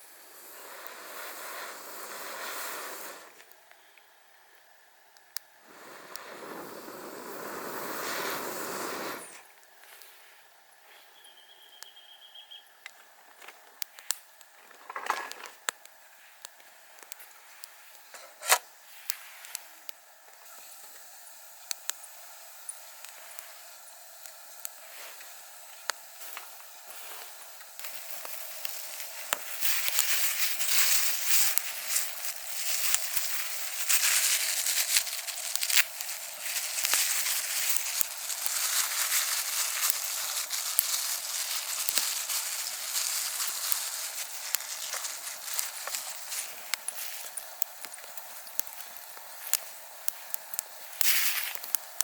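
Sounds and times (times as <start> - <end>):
wood fire crackling and hissing: 0.0 - 52.0.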